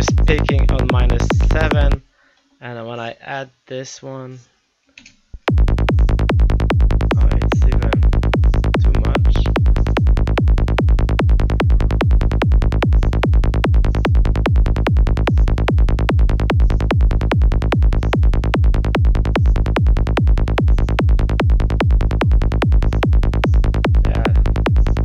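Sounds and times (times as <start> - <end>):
electronic trance track: 0.0 - 2.0, 5.5 - 25.0
four-on-the-floor kick drum: 0.0 - 2.0, 5.4 - 25.0
heavy bassline: 0.0 - 2.0, 5.4 - 25.0.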